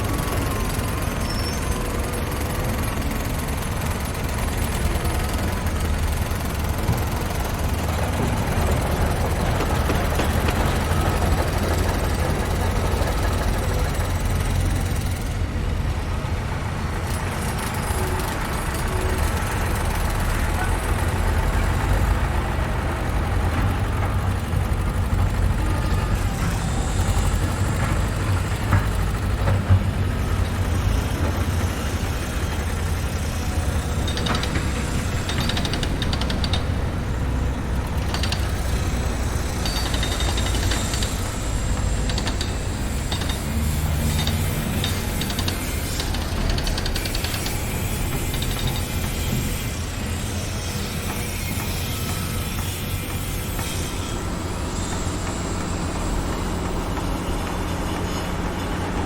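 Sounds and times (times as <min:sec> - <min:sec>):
construction site noise: 0:00.0 - 0:59.0
heavy engine rumbling: 0:00.0 - 0:59.0.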